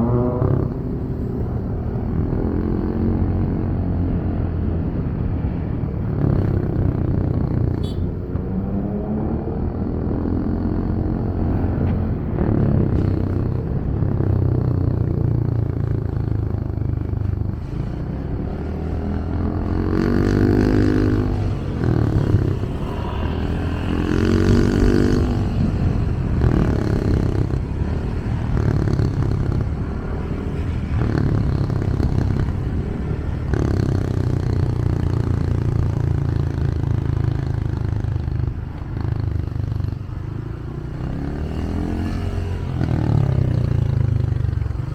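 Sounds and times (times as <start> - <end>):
motorcycle engine revving: 0.0 - 44.9
road and traffic noise: 0.0 - 44.9.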